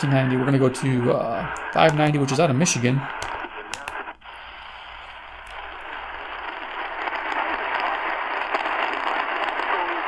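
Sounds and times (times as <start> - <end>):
radio static hiss: 0.0 - 10.0
weak distant radio signal: 0.0 - 10.0.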